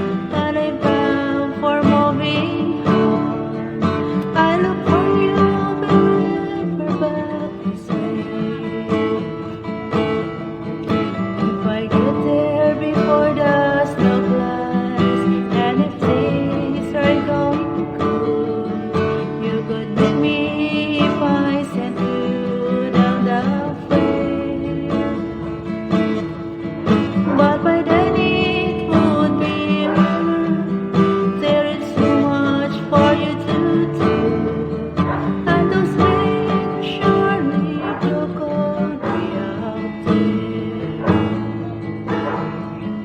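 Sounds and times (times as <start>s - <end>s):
acoustic guitar strumming: 0.0s - 43.0s.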